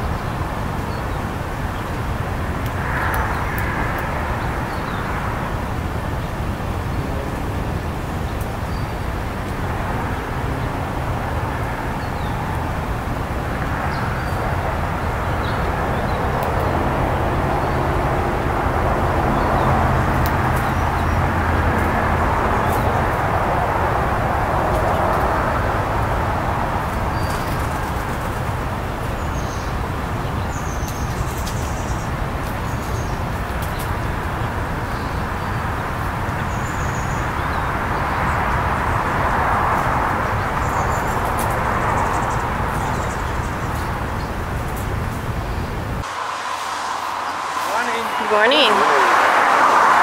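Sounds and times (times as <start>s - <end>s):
road traffic noise: 0.0s - 50.0s
vehicle engine hum: 0.0s - 50.0s.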